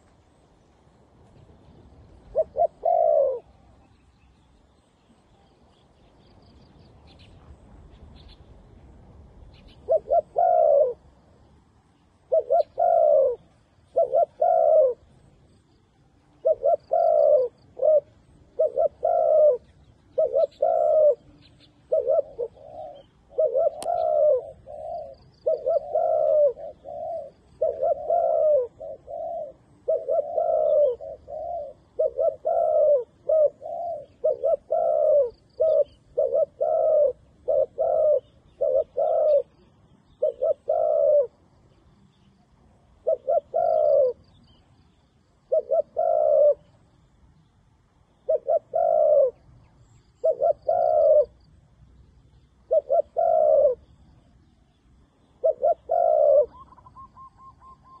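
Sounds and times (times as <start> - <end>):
dove cooing: 1.4 - 4.0, 9.5 - 11.3, 12.0 - 44.7, 45.3 - 47.2, 48.0 - 51.6, 52.4 - 58.0.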